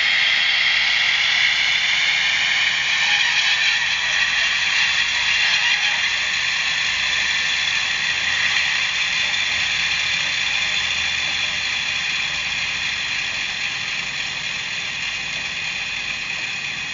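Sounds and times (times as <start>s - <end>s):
model locomotive diesel engine drone: 0.0s - 16.9s.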